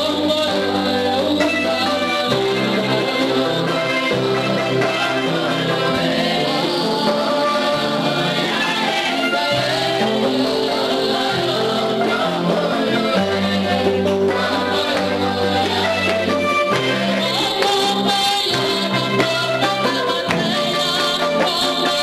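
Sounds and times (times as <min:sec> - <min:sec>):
instrumental backing with bass: 0:00.0 - 0:22.0
women singing worship song: 0:00.0 - 0:22.0.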